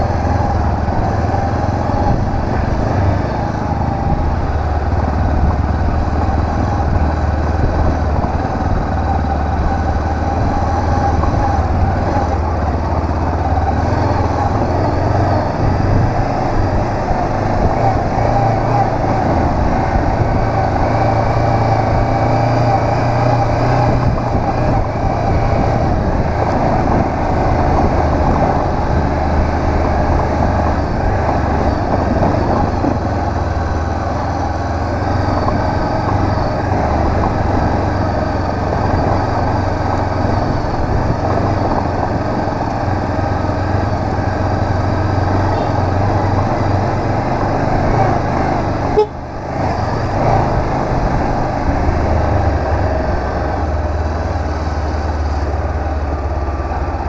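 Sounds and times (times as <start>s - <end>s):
motorcycle engine running: 0.0s - 57.0s
road and wind noise: 0.0s - 57.0s.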